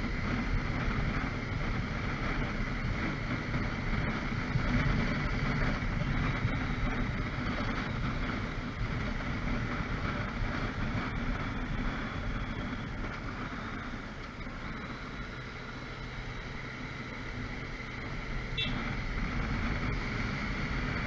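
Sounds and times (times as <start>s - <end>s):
city traffic rumble: 0.0s - 21.0s
motorcycle engine idling: 0.2s - 21.0s.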